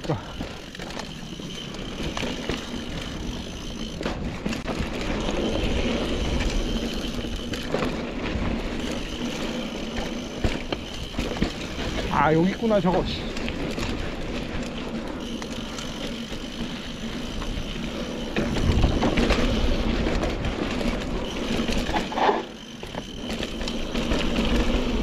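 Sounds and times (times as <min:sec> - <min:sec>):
bike rattling: 0:00.0 - 0:25.0
bike tyres rolling on dirt: 0:00.0 - 0:25.0.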